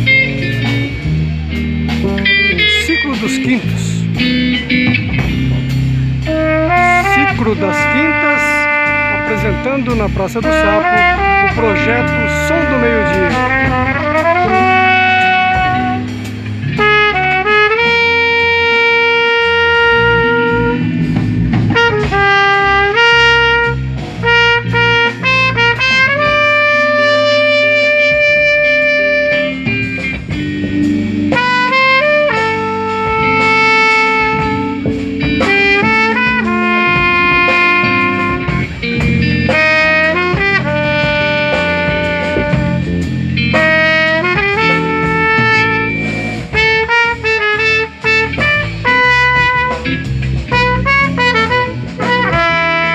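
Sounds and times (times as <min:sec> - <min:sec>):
trumpet: 0:00.0 - 0:05.5, 0:06.2 - 0:52.9
bass: 0:00.0 - 0:52.9
drums: 0:00.0 - 0:52.9
guitar: 0:00.0 - 0:52.9
saxophone: 0:00.0 - 0:52.9.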